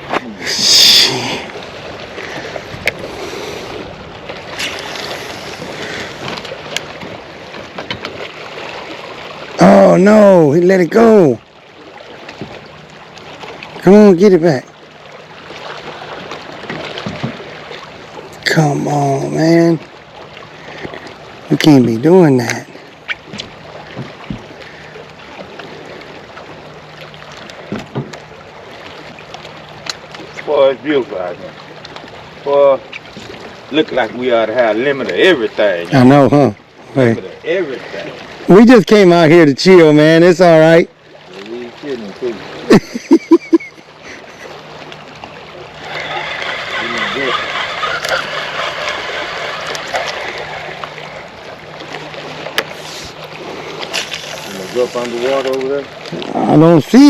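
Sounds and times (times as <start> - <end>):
water lapping at shore: 0.0 - 57.0
wind: 0.0 - 57.0.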